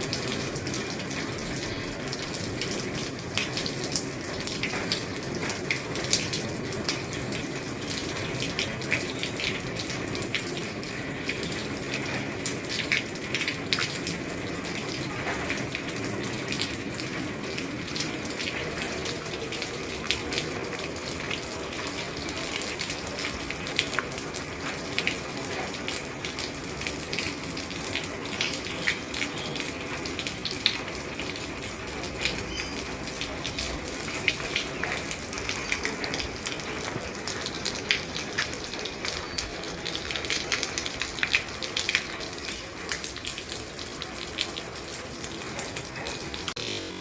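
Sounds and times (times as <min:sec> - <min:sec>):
rain on a roof: 0:00.0 - 0:47.0.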